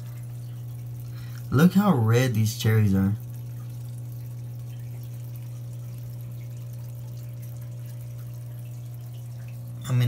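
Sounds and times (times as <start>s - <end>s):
air pump humming: 0.0s - 10.0s
filter bubbling and dripping: 0.0s - 10.0s.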